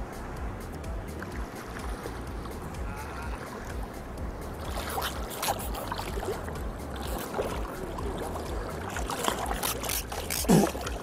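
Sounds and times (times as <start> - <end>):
steady low rumble: 0.0 - 11.0
water splashing around fish: 1.2 - 11.0.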